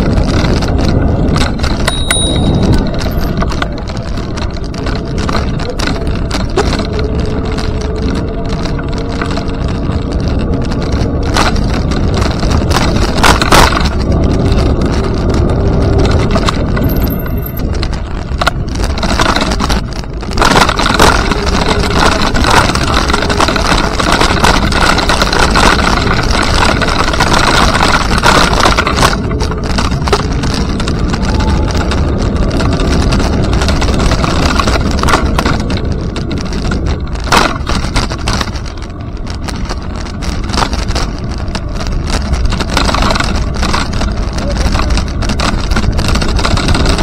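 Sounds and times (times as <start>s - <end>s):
wind rumble on microphone: 0.0s - 47.0s.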